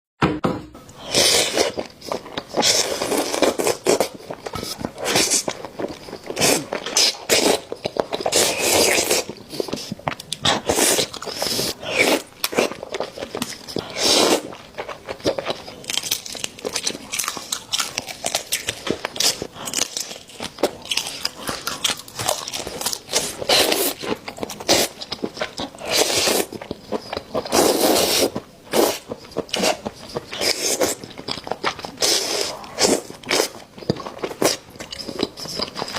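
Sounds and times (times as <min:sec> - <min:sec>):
crunchy food chewing: 0:01.1 - 0:35.9.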